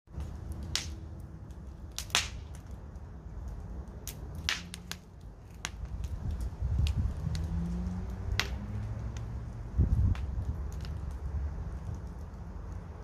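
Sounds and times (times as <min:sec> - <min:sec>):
wood fire crackling: 0:00.1 - 0:13.0.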